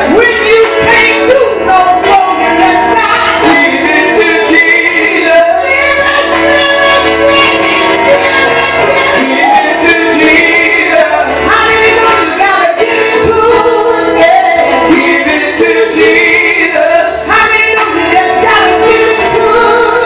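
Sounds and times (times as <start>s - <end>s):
woman singing into microphone: 0.0s - 20.0s.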